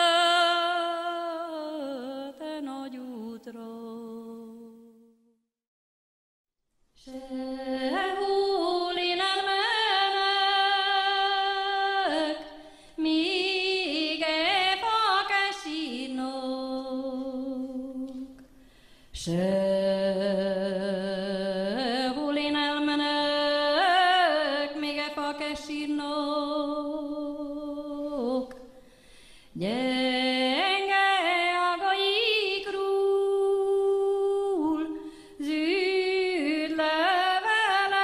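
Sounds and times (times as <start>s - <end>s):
woman singing unaccompanied: 0.0s - 5.0s, 7.0s - 18.4s, 19.2s - 28.8s, 29.6s - 38.0s.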